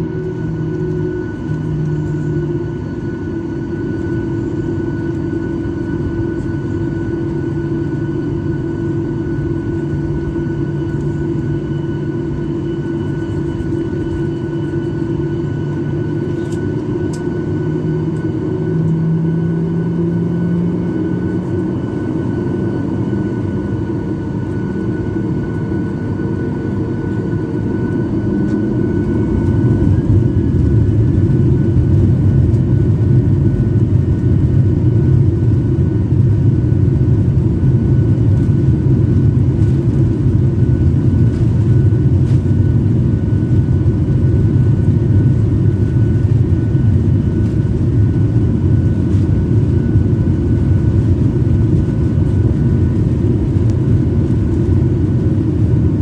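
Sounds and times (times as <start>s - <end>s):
jet engine drone and rushing air: 0.0s - 56.0s.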